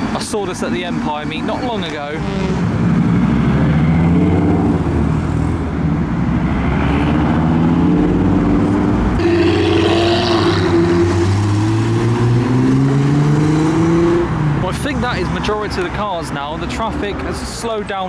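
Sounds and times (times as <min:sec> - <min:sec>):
loud car engines accelerating: 0:00.0 - 0:18.0.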